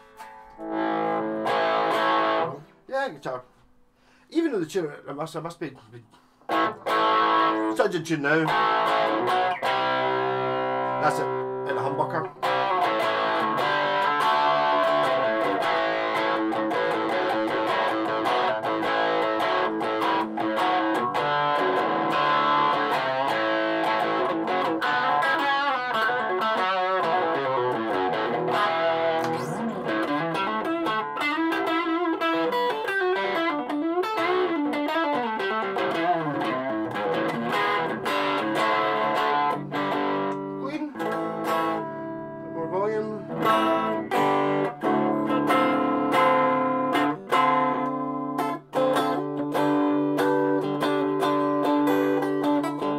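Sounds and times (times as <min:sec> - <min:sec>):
distorted electric guitar: 0:00.0 - 0:02.8, 0:06.5 - 0:52.9.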